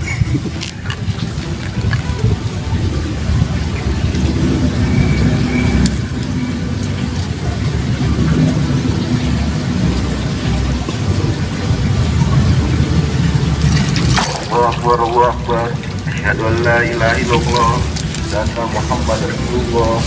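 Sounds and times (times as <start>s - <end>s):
loud low rumble: 0.0s - 20.0s.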